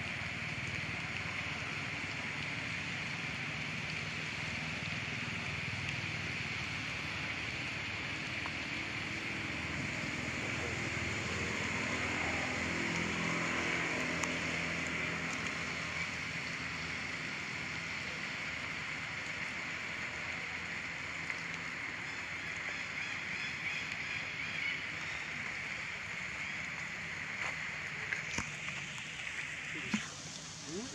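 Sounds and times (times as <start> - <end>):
high hiss-like drone: 0.0 - 30.9.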